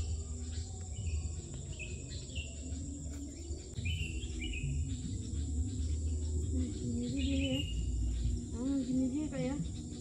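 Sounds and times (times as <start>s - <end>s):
bird chirps: 0.0s - 10.0s
insects trilling: 0.0s - 10.0s.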